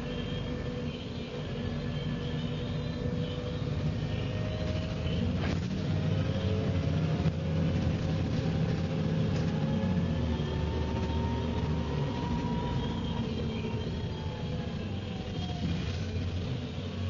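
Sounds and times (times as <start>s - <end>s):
axle whine rising in pitch: 0.0s - 16.6s
bus engine droning: 0.0s - 17.0s.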